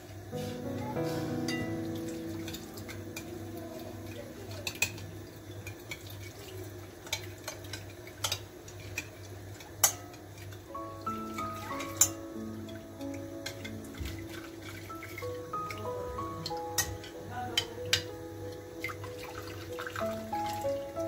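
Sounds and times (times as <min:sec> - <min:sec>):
soft background music: 0:00.0 - 0:07.2, 0:10.0 - 0:21.0.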